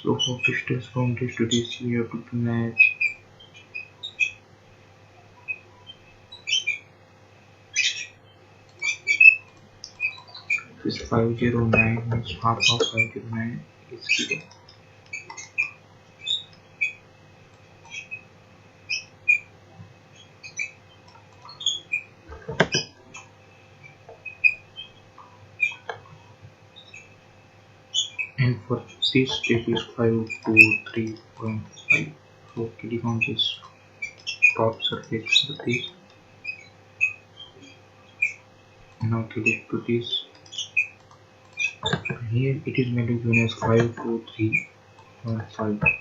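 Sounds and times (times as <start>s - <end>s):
faint steady hum: 0.0s - 46.0s
small bird chirping: 2.7s - 4.4s, 5.2s - 6.9s, 7.7s - 17.0s, 17.8s - 19.5s, 20.1s - 27.2s, 27.9s - 46.0s.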